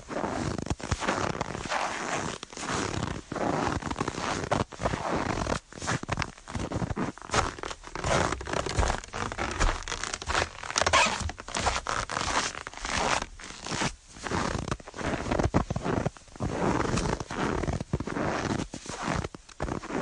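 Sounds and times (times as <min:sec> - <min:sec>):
footsteps crunching on snow: 0:00.1 - 0:20.0.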